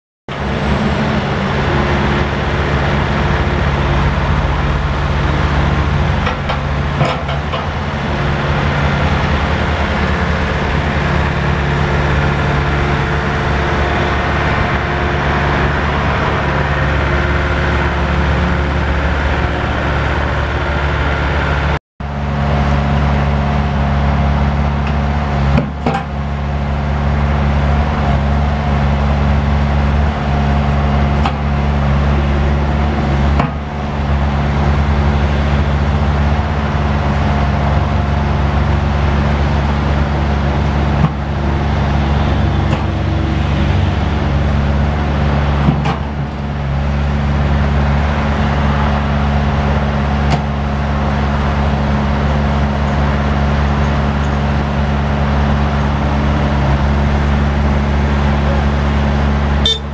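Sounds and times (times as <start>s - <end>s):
excavator diesel engine running: 0.3s - 59.9s.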